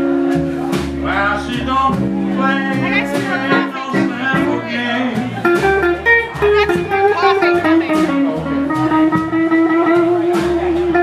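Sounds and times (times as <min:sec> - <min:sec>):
drums: 0:00.0 - 0:11.0
upright bass: 0:00.0 - 0:11.0
electric guitar lead: 0:01.5 - 0:11.0.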